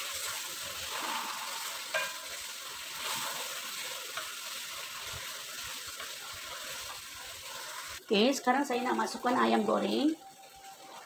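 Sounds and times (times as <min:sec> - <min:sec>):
sambal sizzling in a wok: 0:00.0 - 0:11.0.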